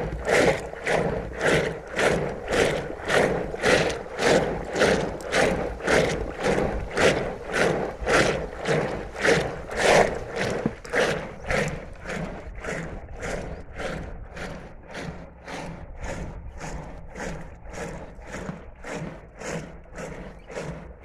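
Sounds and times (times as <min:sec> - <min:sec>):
churning stick sloshing curd: 0:00.0 - 0:21.0.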